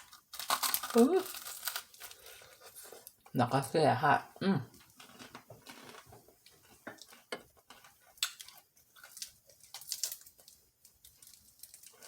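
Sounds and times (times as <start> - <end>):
fried shell crackling and crunching: 0.0 - 3.2, 5.0 - 12.0.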